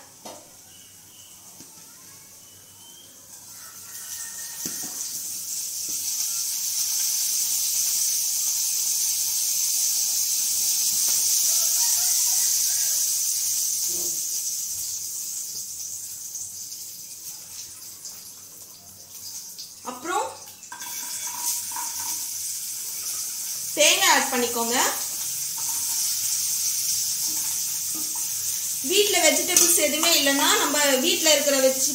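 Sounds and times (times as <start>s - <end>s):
seeds sizzling in hot oil: 0.0s - 31.9s.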